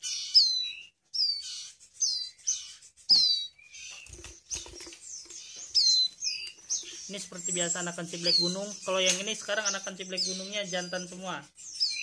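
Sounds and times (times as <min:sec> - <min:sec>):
baby birds chirping: 0:00.0 - 0:12.0.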